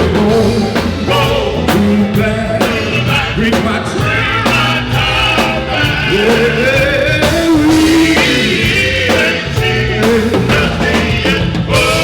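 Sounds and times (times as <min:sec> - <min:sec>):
live band playing: 0:00.0 - 0:12.0
person singing: 0:00.0 - 0:12.0.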